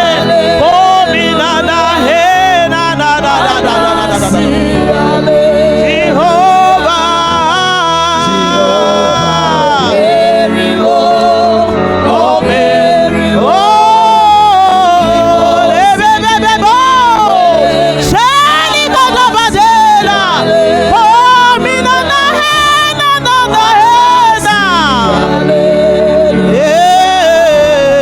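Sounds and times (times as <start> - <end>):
musical accompaniment: 0.0 - 28.0
person singing gospel: 0.0 - 28.0.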